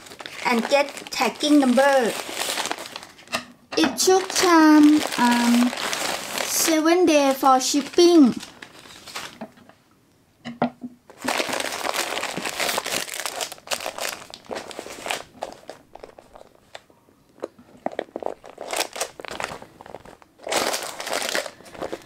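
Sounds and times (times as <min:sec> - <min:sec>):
plastic bags crinkling: 0:00.0 - 0:03.3, 0:04.0 - 0:09.5, 0:11.1 - 0:22.0.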